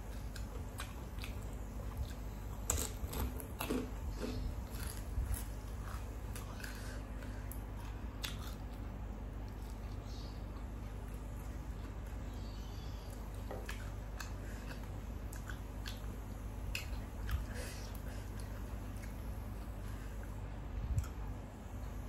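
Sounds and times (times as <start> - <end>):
person chewing food: 0.0 - 21.4
steady low hum: 0.0 - 22.0.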